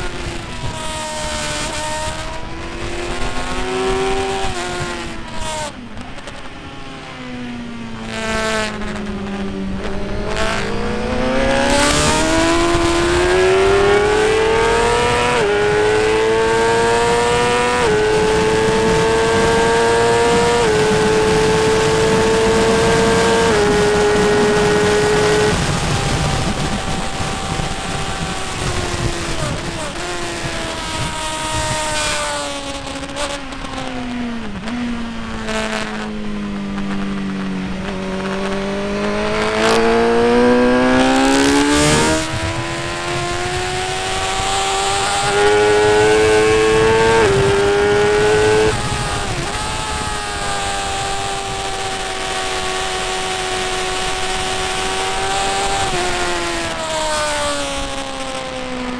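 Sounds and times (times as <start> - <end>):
motorcycle engine revving and shifting: 0.0 - 58.9.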